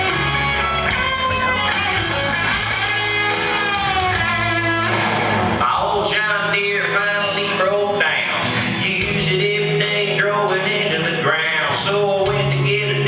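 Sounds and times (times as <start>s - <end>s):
guitar music with bass line: 0.0s - 13.0s.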